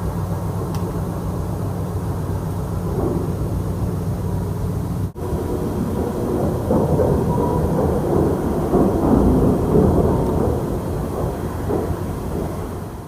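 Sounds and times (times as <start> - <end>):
loud low rumble: 0.0 - 13.0.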